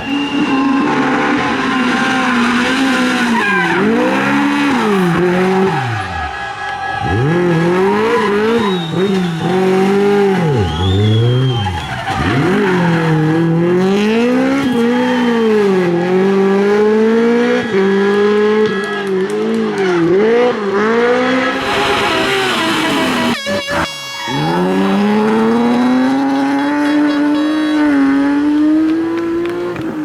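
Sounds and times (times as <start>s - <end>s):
tyre squeal: 0.0s - 15.9s, 21.6s - 30.0s
rally car engine revving hard: 0.1s - 30.0s.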